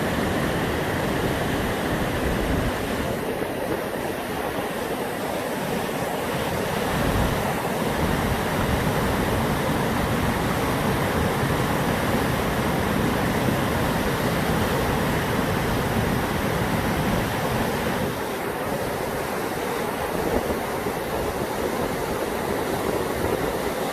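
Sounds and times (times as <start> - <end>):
rushing waterfalls and rapids: 0.0 - 23.9.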